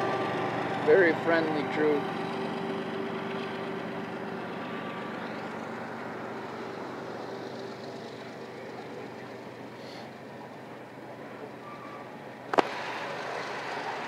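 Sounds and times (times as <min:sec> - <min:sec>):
vehicle running noise: 0:00.0 - 0:14.0.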